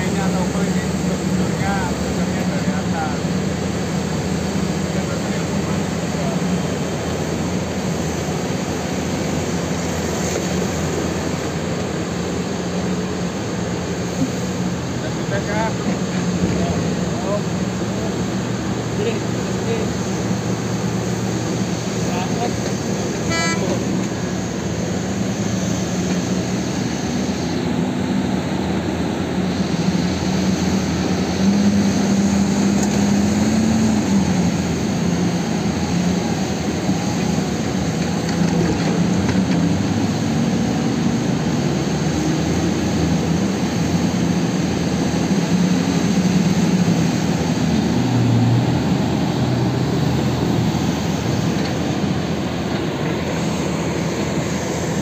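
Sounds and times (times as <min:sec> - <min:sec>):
heavy diesel engines droning: 0:00.0 - 0:55.0.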